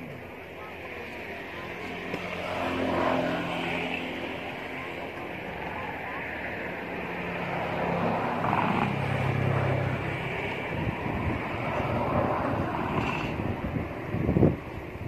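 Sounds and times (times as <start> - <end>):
outdoor noise: 0.0 - 15.0
vehicle engine humming: 0.0 - 15.0.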